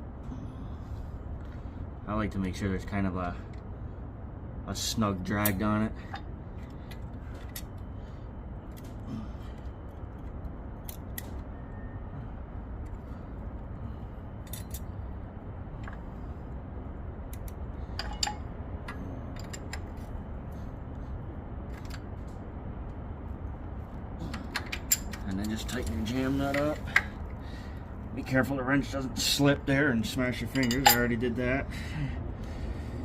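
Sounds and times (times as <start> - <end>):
low background rumble: 0.0 - 33.0.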